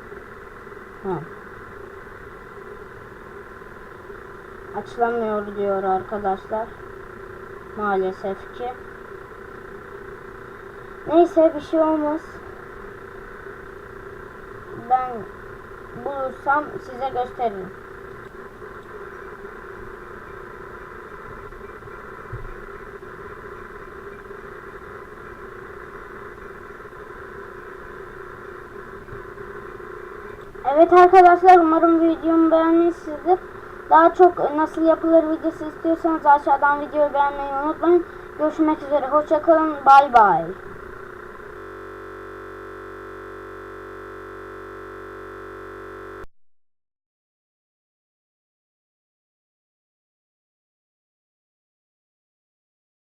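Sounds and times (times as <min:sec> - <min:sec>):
electronic buzzing drone: 0:00.0 - 0:46.3
mechanical hum: 0:00.0 - 0:46.3.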